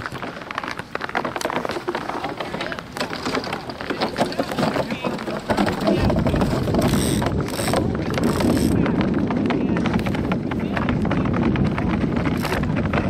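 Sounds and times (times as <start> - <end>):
iceboat runners scraping over ice: 0.0 - 13.0.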